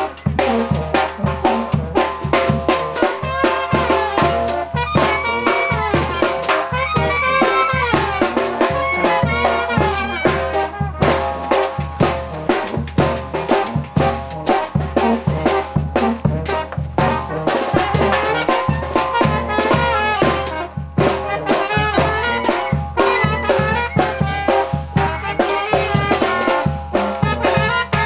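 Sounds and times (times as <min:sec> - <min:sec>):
brass band playing dance music: 0:00.0 - 0:28.0.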